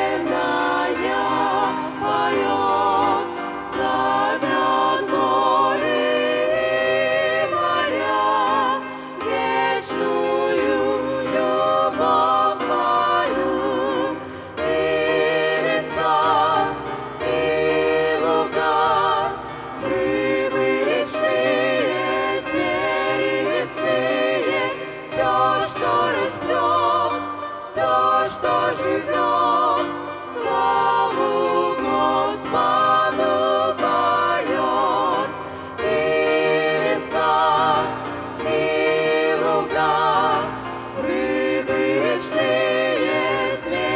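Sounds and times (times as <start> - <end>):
group singing a hymn: 0.0 - 43.9.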